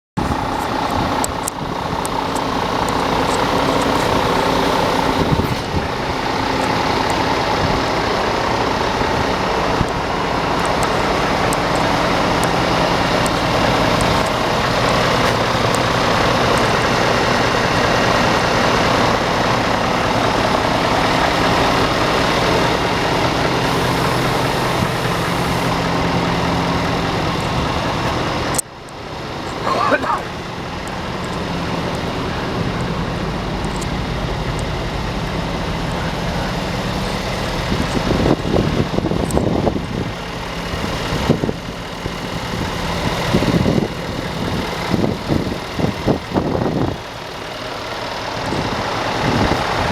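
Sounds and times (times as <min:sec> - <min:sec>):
diesel truck engine idling: 0:00.2 - 0:49.9.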